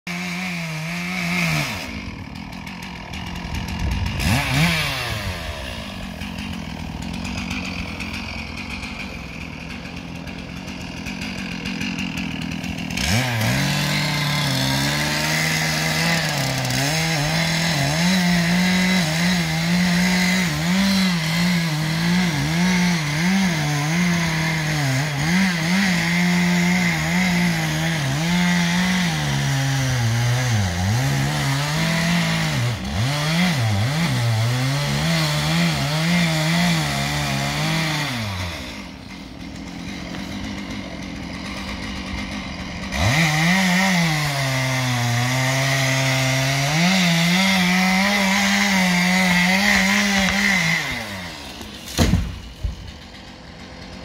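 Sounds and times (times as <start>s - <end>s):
chainsaw cutting into wood: 0.1s - 54.0s.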